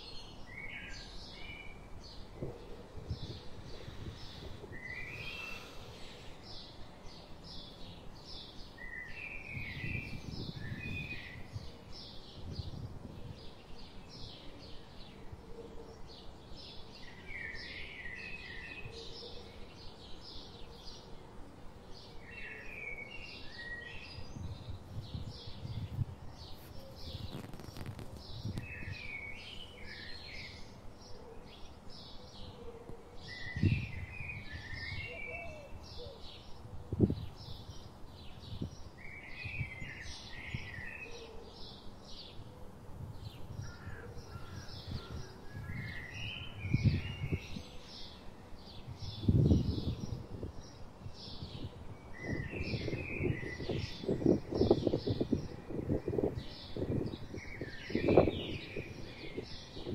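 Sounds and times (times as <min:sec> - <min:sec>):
low wind rumble: 0:00.0 - 0:31.1, 0:31.7 - 0:59.9
small birds chirping: 0:00.0 - 0:32.6, 0:33.2 - 0:59.9.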